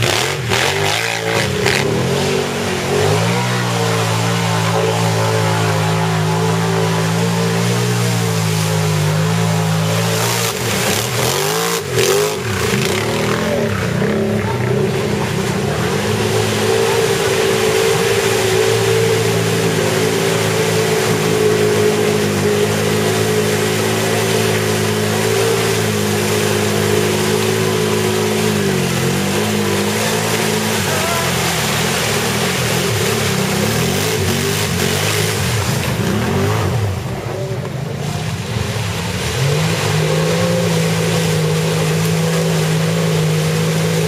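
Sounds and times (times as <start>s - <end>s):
atv engine revving: 0.0s - 44.0s.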